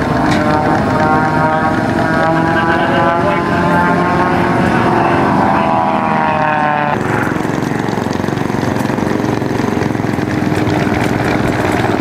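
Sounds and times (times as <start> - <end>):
propeller aircraft engine: 0.0 - 12.0
small atv engine running: 0.0 - 12.0.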